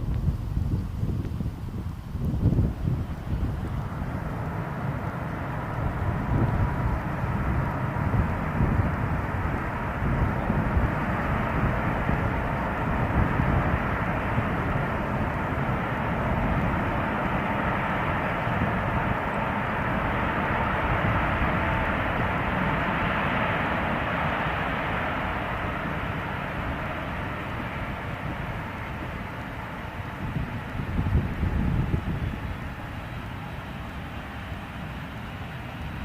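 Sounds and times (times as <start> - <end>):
jet engines roaring: 0.0 - 36.0.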